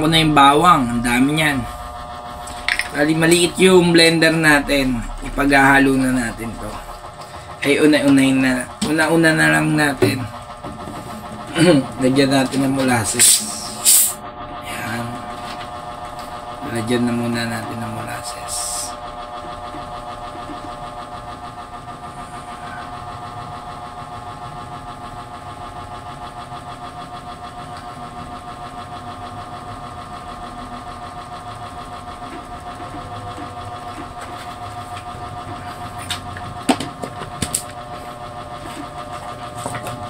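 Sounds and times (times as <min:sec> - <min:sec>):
blender motor humming: 0:00.0 - 0:40.0.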